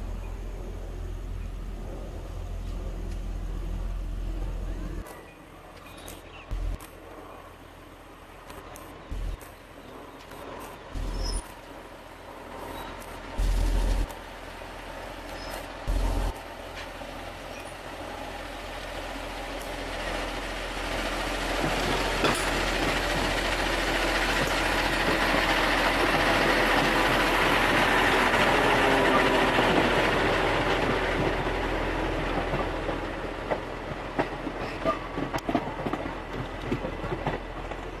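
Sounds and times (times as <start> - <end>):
train wheels rumbling on rails: 0.0 - 7.3, 8.1 - 38.0.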